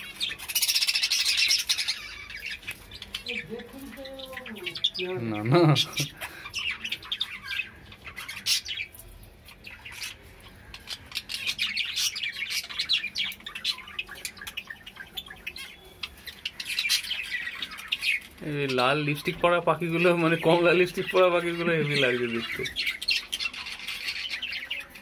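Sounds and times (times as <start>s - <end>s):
budgerigars chirping and squawking: 0.0s - 25.0s.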